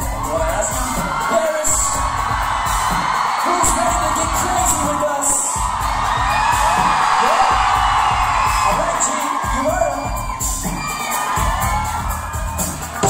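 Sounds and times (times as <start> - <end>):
fans screaming and whooping: 0.0 - 13.0
live pop music with thumping beat: 0.0 - 13.0.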